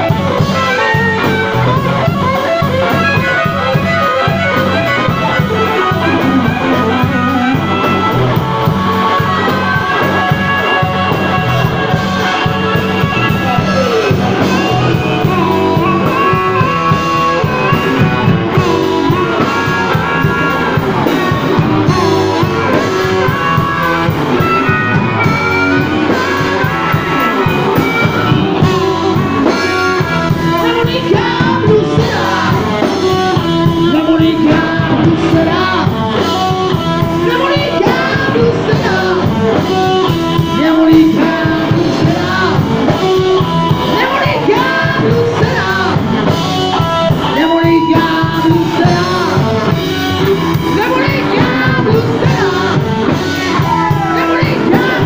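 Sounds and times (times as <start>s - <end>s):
drums: 0.0s - 55.0s
electric guitar: 0.0s - 55.0s
harmonica wailing: 0.0s - 55.0s.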